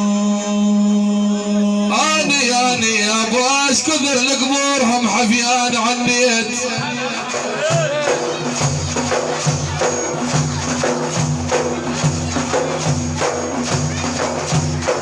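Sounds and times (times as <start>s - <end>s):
frame drums with jingles: 2.0s - 15.0s.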